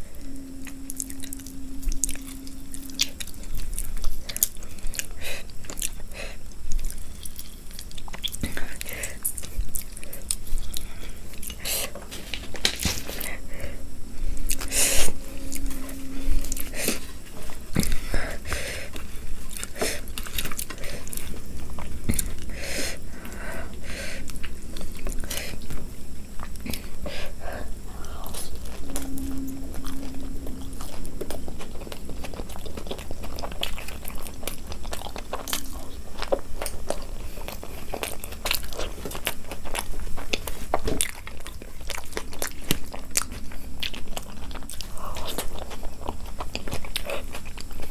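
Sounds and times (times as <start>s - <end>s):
low hum: 0.0s - 47.9s
person chewing food: 0.0s - 47.9s.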